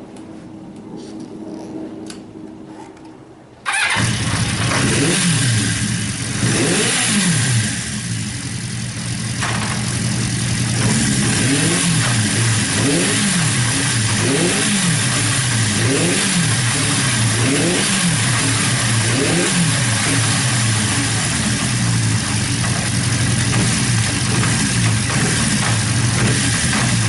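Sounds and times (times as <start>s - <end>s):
motorcycle engine idling: 3.7s - 6.5s, 7.4s - 27.0s
motorcycle engine revving: 3.7s - 27.0s.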